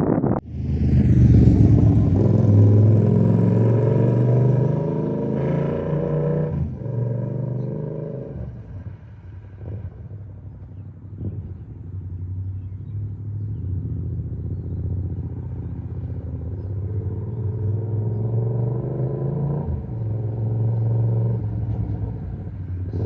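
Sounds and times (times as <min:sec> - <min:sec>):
motorcycle engine accelerating: 0:00.0 - 0:09.0, 0:09.6 - 0:23.0.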